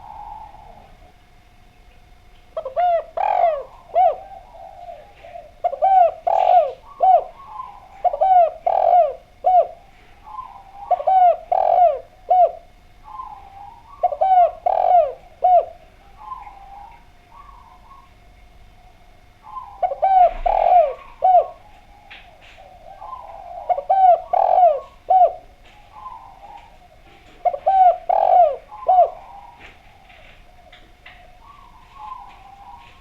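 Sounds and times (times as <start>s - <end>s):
dove cooing: 0.0s - 33.0s.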